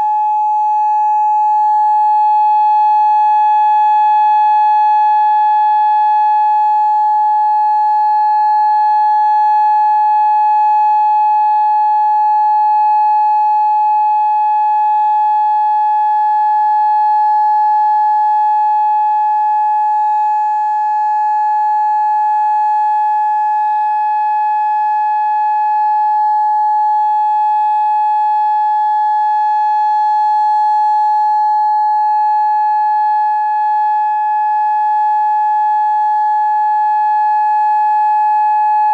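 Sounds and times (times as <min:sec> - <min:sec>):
outdoor warning siren steady tone: 0:00.0 - 0:38.9.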